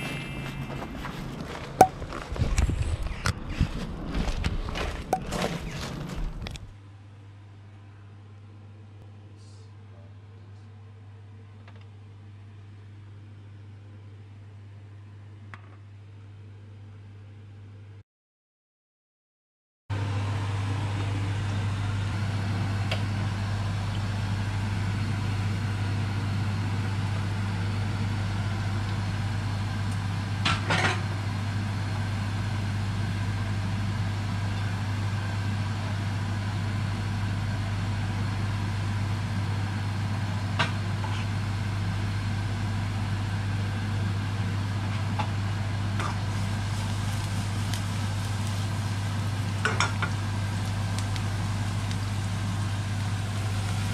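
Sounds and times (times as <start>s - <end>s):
appliance electrical hum: 0.0s - 18.0s, 19.9s - 53.9s.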